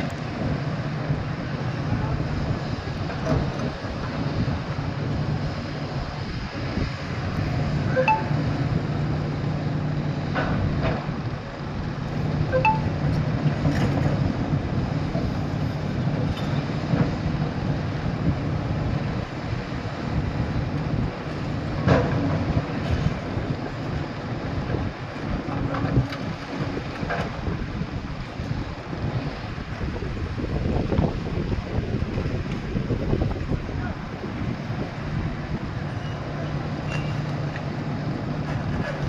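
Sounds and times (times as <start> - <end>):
heavy machinery rumbling: 0.0 - 39.0
wind buffeting microphone: 0.0 - 39.0.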